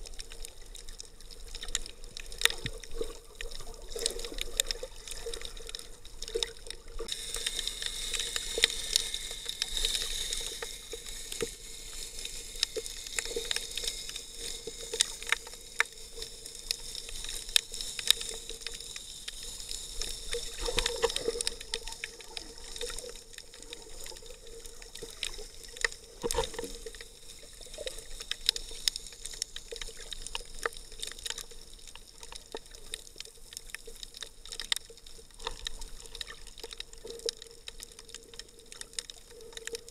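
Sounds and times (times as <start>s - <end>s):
muffled underwater movement: 0.0s - 39.9s
sharp clicks and crackles: 0.0s - 39.9s.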